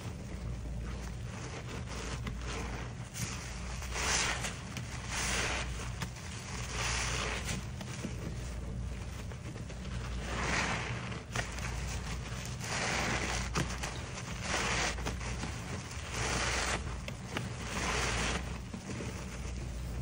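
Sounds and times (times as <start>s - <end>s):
soapy sponges squelching: 0.0s - 20.0s.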